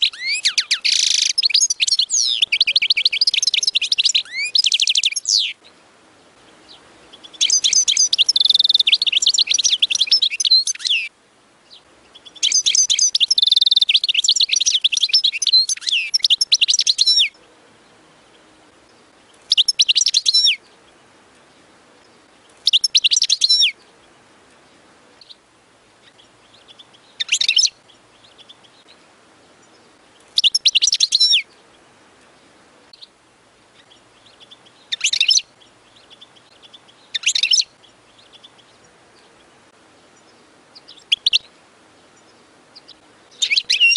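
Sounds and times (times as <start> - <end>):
finch twittering song: 0.0 - 25.4, 26.0 - 43.9.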